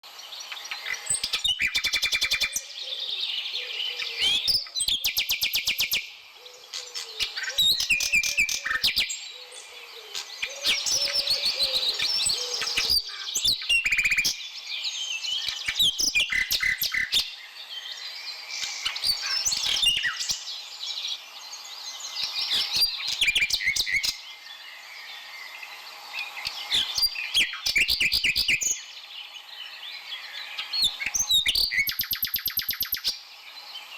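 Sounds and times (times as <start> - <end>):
birds chirping and calling: 0.3 - 33.9.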